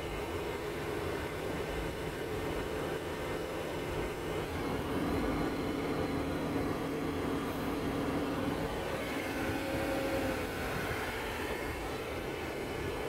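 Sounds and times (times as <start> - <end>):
car engine drone: 0.1 - 13.0.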